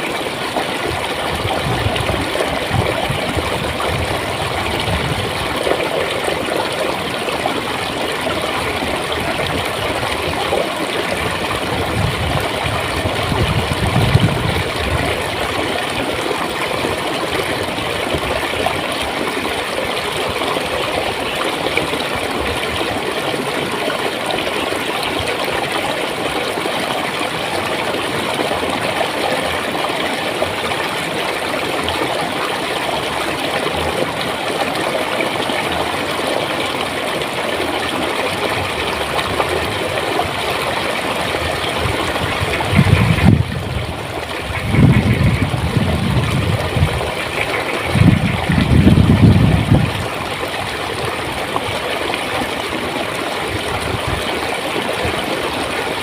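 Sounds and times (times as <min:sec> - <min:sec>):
stream flowing over stones: 0:00.0 - 0:56.0.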